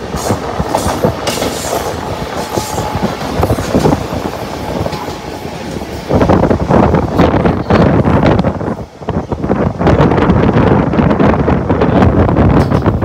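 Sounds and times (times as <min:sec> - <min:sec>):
passing train knocks and clatter: 0:00.0 - 0:13.0
wheels rumbling on rail: 0:00.0 - 0:13.0.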